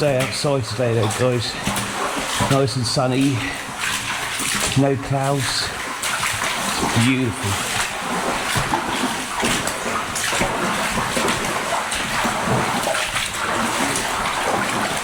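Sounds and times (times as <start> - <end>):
splashing through floodwater: 0.0 - 15.0.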